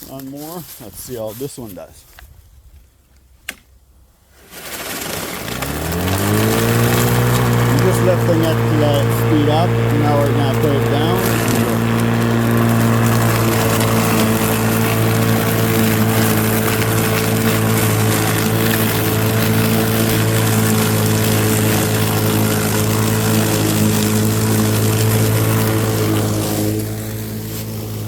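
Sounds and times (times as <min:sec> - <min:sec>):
hiss of leaves through mower: 0:04.3 - 0:28.0
lawn mower motor and blade hum: 0:04.3 - 0:28.0.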